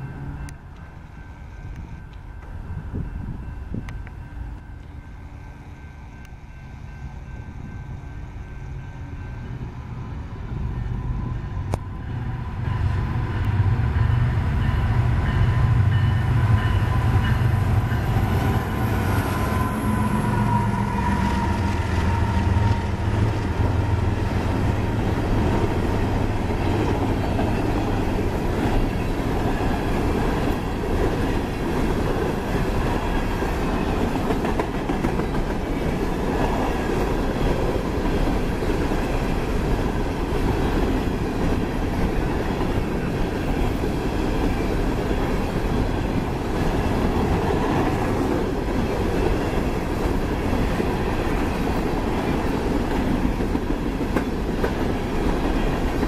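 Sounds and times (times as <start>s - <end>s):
diesel locomotive engines: 0.0s - 56.0s.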